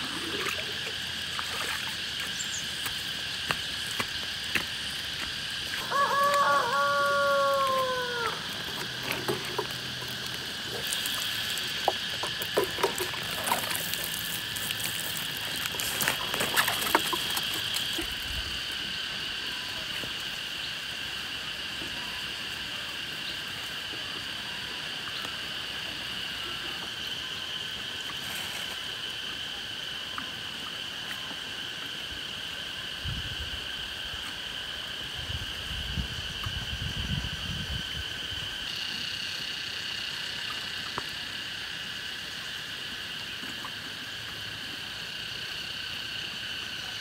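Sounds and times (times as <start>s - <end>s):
drone of insects: 0.0s - 47.0s.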